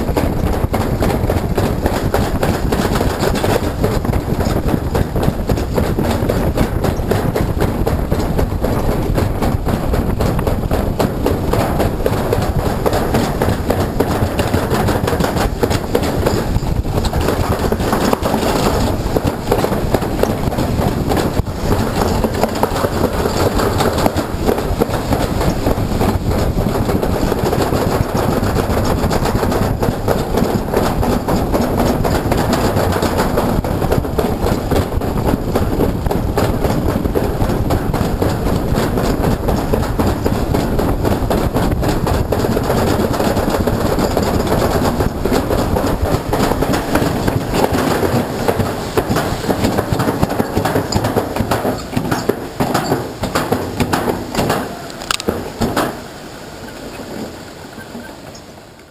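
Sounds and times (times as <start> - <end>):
sled rattling in metal trough: 0.0 - 58.9.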